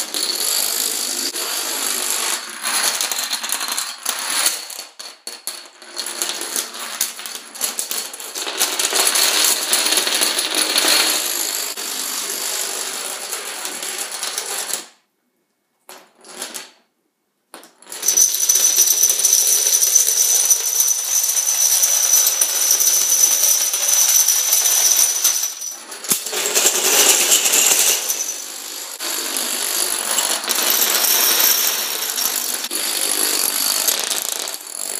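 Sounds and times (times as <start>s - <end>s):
dominoes toppling and clattering: 0.0s - 11.7s, 17.9s - 34.9s.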